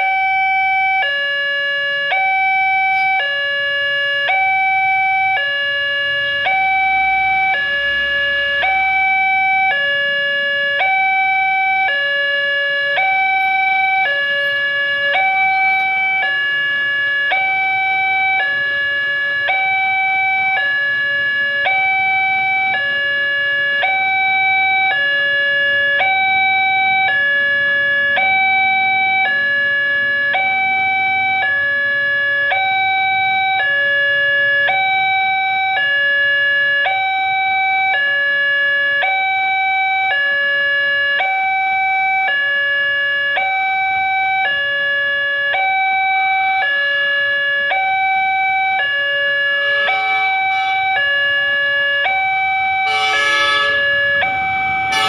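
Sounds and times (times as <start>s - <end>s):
level-crossing two-tone alarm: 0.0s - 55.0s.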